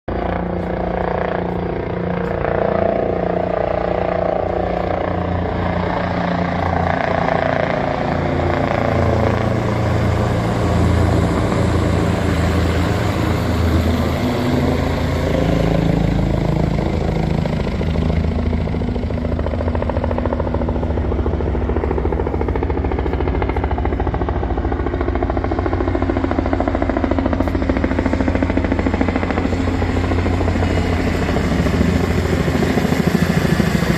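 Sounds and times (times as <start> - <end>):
helicopter rotor beating: 0.1 - 33.9
turbine whine: 0.1 - 33.9.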